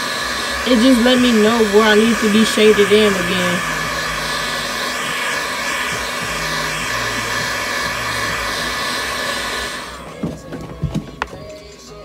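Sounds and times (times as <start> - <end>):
heat gun blowing with whine: 0.0 - 11.4.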